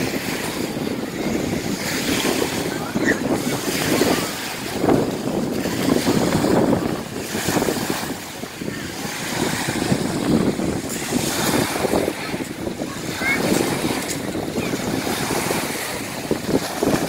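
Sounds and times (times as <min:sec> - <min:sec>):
waves breaking on pebble beach: 0:00.0 - 0:17.0
wind buffeting microphone: 0:00.0 - 0:17.0.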